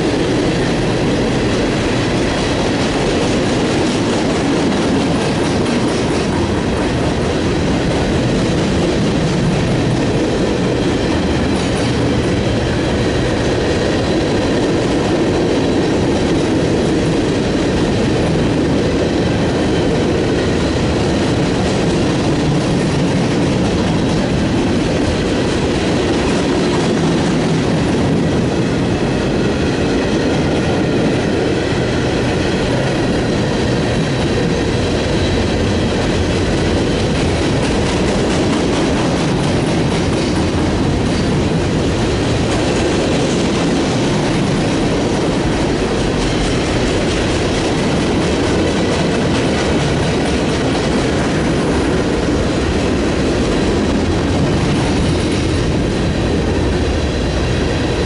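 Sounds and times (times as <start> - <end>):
train cars rolling past: 0.0 - 58.0.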